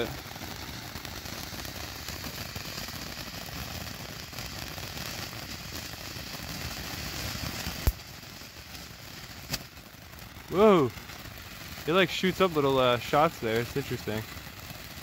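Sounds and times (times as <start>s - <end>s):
firework fountain hissing sparks: 0.0s - 15.0s
firework sharp cracks: 0.0s - 15.0s.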